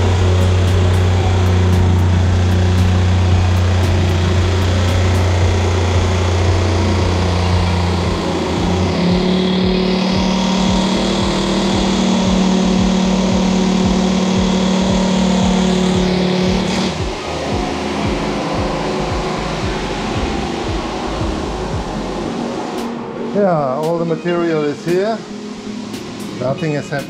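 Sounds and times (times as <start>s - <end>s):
floor sanding machine humming: 0.0s - 27.0s.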